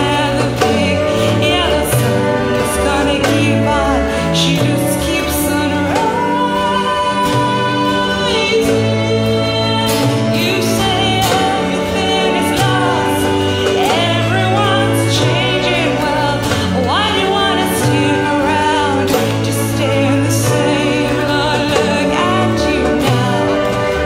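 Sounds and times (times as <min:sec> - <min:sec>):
small orchestra with guitar: 0:00.0 - 0:24.0
woman singing: 0:00.0 - 0:24.0.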